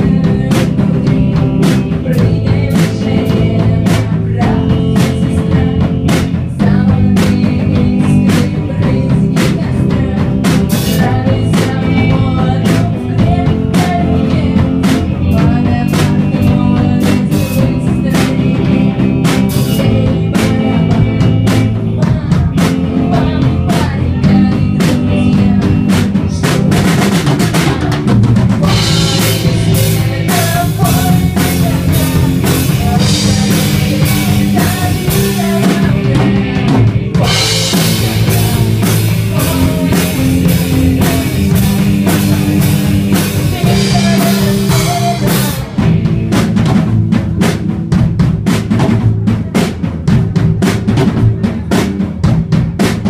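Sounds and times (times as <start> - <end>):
bass guitar: 0.0 - 53.0
drum kit: 0.0 - 53.0
electric guitars: 0.0 - 53.0.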